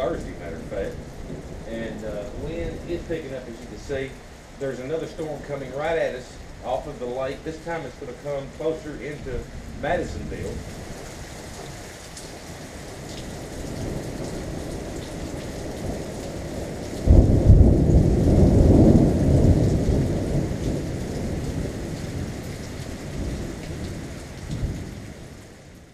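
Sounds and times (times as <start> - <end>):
thunder rumbling and clapping: 0.0 - 11.8, 13.2 - 25.0
rain hissing: 0.0 - 25.9.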